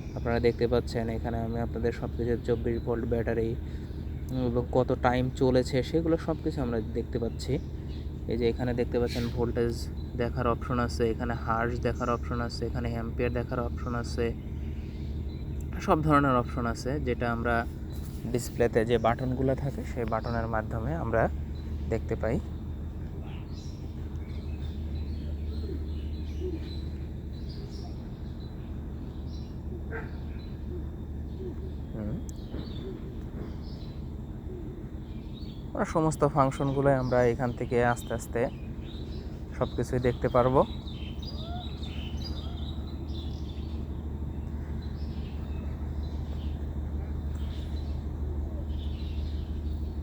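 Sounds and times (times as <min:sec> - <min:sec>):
birds chirping: 0:00.0 - 0:50.0
diesel generator running: 0:00.0 - 0:50.0.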